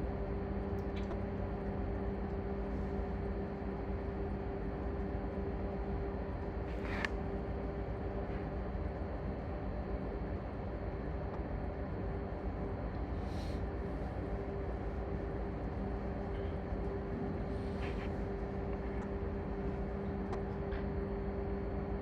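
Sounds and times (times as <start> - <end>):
engine room machinery drone: 0.0 - 22.0.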